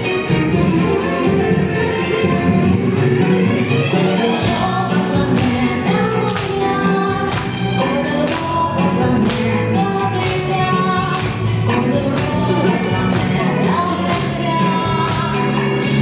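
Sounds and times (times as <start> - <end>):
backing track with steady beat: 0.0 - 16.0.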